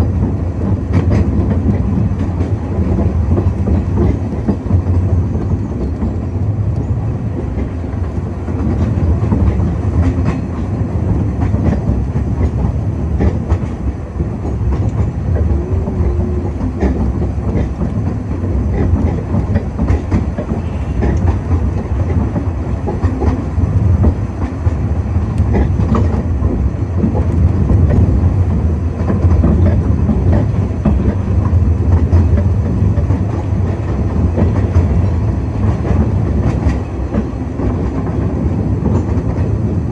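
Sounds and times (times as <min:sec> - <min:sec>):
railway carriage rumbling: 0:00.0 - 0:39.9.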